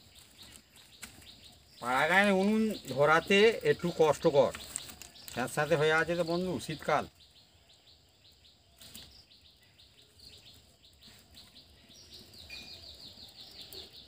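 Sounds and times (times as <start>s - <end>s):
dry sticks rustling: 0.0s - 7.1s, 8.8s - 13.9s
birds chirping: 0.0s - 14.0s.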